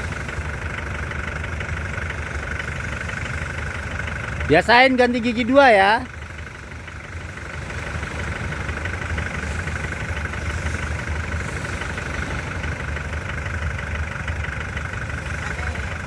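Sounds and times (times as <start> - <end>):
engine running in low gear: 0.0 - 16.0.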